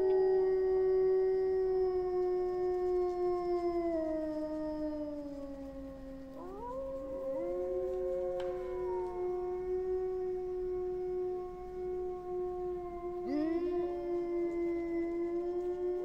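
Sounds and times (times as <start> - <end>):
wolves howling: 0.0 - 16.0.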